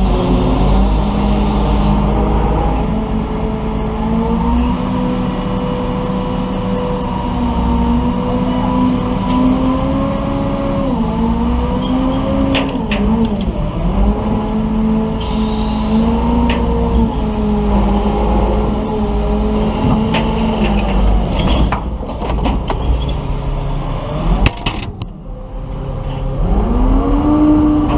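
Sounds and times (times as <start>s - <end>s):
engine running at high revs: 0.0s - 21.3s, 23.9s - 27.9s.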